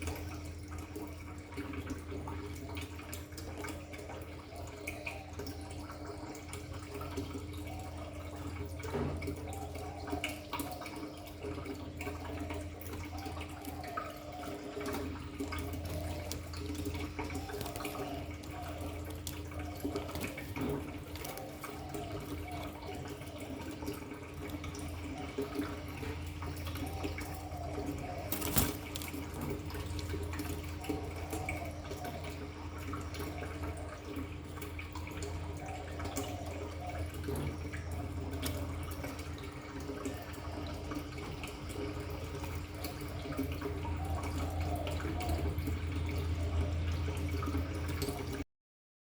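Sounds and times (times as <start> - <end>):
dove cooing: 0.0 - 48.4.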